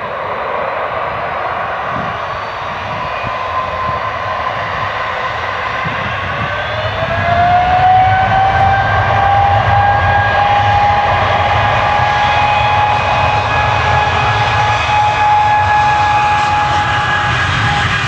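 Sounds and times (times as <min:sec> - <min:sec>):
jet engines spooling up: 0:00.0 - 0:18.0.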